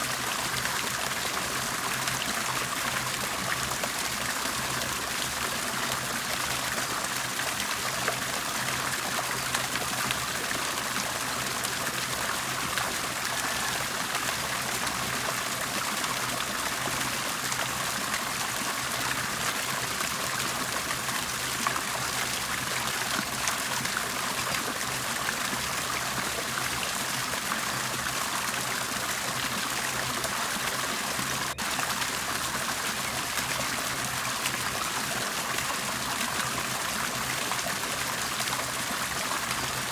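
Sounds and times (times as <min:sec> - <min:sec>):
water bubbling and gurgling: 0:00.0 - 0:39.9.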